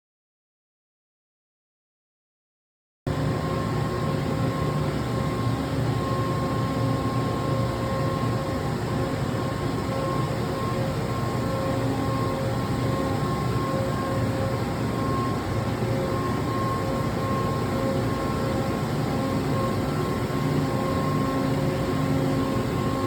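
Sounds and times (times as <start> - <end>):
machine mechanical hum: 3.1 - 23.0
thin steady whine: 3.1 - 23.0.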